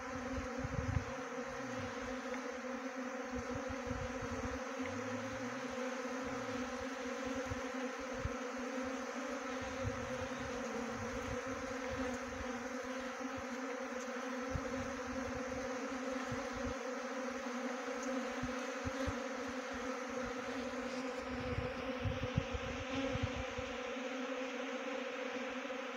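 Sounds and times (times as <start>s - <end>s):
honey bees buzzing: 0.0s - 25.9s.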